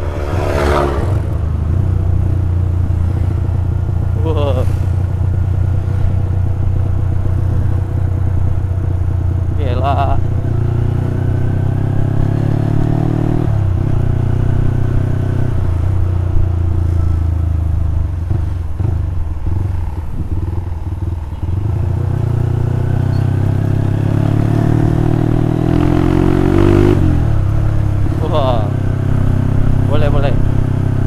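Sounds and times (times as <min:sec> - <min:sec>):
motorcycle engine while riding: 0:00.0 - 0:31.0.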